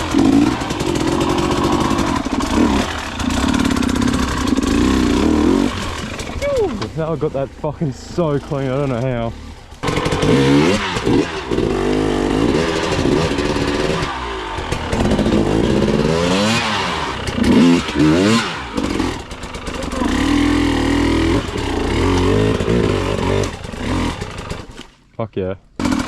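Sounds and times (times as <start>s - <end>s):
motorcycle engine revving: 0.0s - 24.9s, 25.8s - 26.0s.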